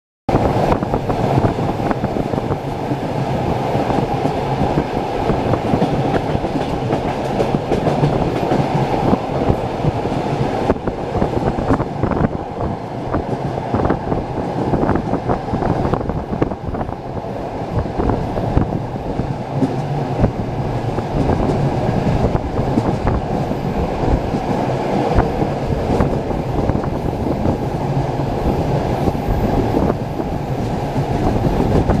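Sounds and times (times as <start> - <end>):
train wheels rumbling on rails: 0.3 - 32.0.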